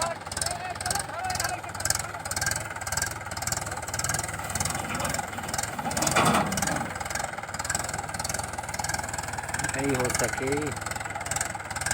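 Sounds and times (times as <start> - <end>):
toy tractor engine chugging: 0.0 - 11.9.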